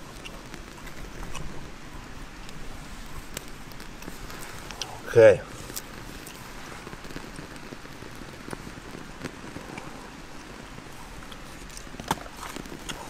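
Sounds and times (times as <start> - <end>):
fire crackles: 0.0 - 13.0
small flame burning: 0.0 - 13.0.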